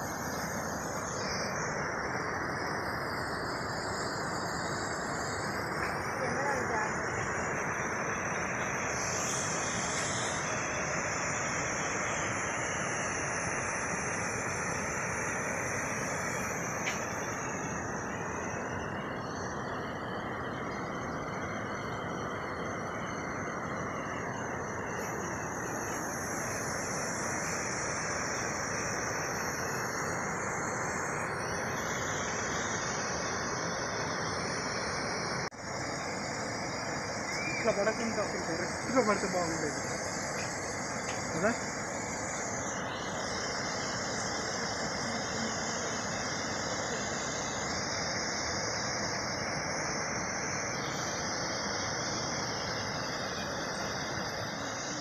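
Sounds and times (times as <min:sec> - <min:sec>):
high insect buzz: 0:00.0 - 0:55.0.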